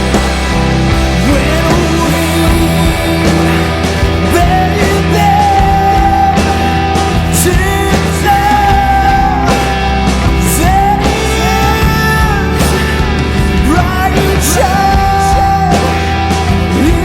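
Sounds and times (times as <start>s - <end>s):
rock music with sung melody: 0.0s - 17.0s.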